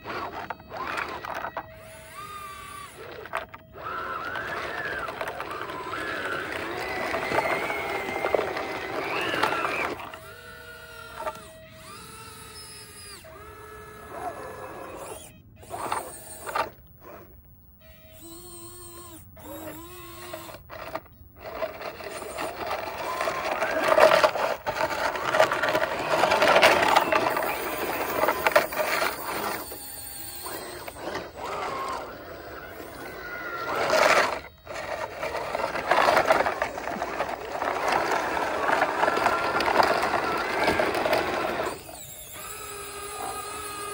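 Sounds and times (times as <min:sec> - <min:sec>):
gravel crunching under tracks: 0:00.0 - 0:12.2, 0:19.1 - 0:42.5
small electric motors whining: 0:00.0 - 0:43.9.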